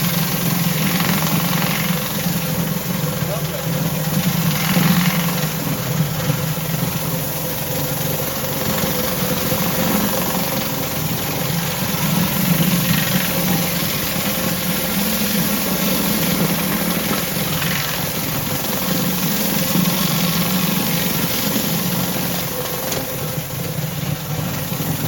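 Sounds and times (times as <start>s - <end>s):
petrol engine running: 0.0s - 25.0s
water jet hissing on stone: 0.0s - 25.0s.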